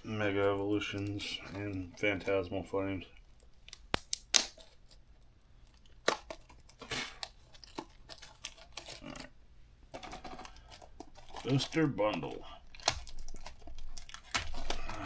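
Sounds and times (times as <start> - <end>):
packaging clicks and taps: 0.0 - 2.5, 3.2 - 15.0
plastic wrap crinkling and tearing: 0.0 - 15.0.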